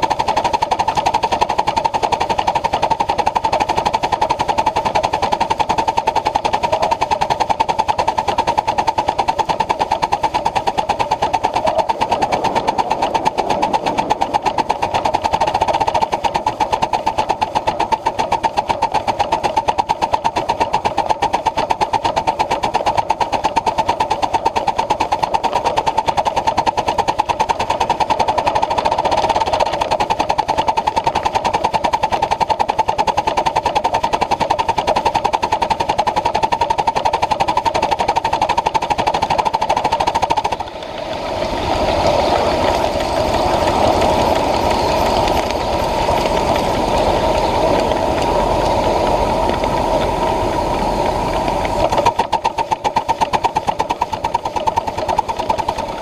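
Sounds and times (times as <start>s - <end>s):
locomotive wheels clattering: 0.0s - 56.0s.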